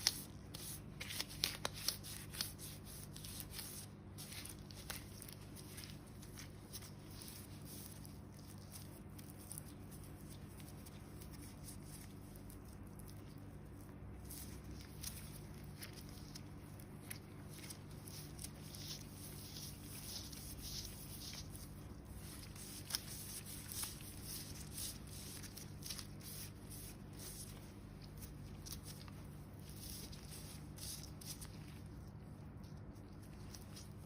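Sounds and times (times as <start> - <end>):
dry skin crackling and scratching: 0.0 - 34.0
low steady hum: 0.0 - 34.0.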